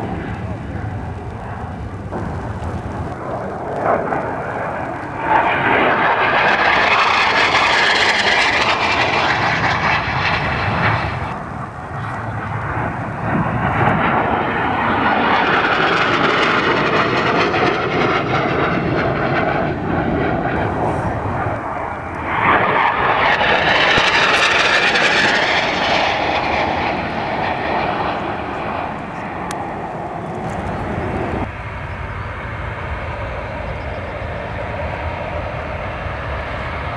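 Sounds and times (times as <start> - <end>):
aircraft flying past: 0.0 - 36.9.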